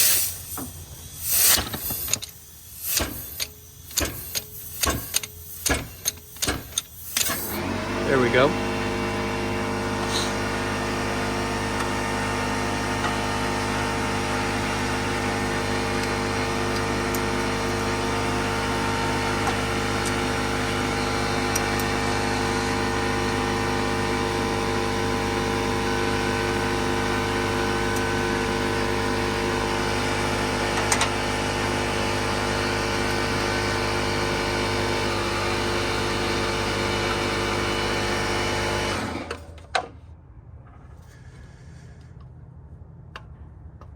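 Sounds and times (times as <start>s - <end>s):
air compressor running: 0.0s - 39.6s, 41.0s - 42.2s.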